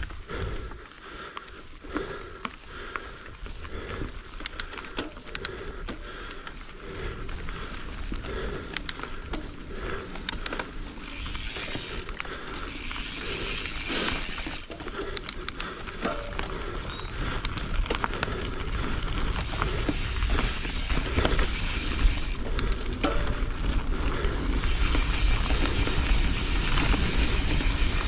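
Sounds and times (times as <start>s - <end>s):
bike clicks and rattles: 0.0s - 28.0s
bike tyres on dirt trail: 0.0s - 28.0s.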